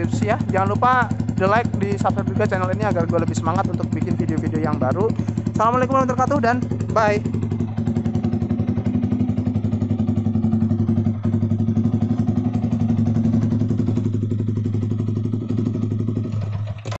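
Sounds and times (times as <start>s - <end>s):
motorcycle idling: 0.0s - 17.0s.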